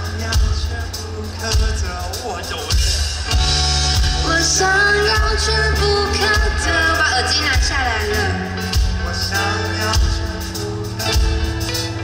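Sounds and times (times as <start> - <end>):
low bass notes: 0.0 - 12.0.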